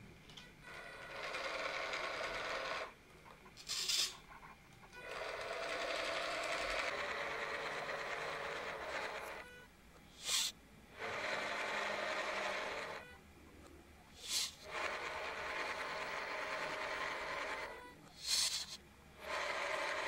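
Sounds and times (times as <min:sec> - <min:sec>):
toy car motor whirring: 0:00.7 - 0:03.0, 0:03.6 - 0:04.2, 0:04.9 - 0:13.2, 0:14.1 - 0:20.0.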